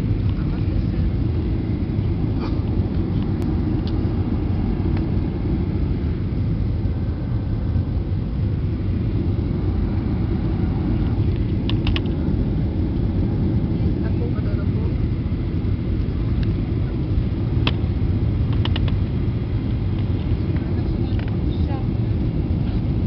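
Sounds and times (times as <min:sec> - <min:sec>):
airliner engine rumble: 0:00.0 - 0:23.0.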